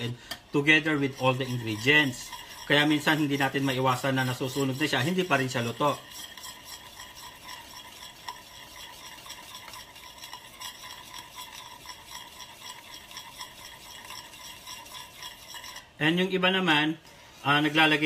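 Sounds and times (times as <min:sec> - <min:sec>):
wire whisk stirring in metal pan: 0:00.0 - 0:16.4, 0:17.4 - 0:18.0.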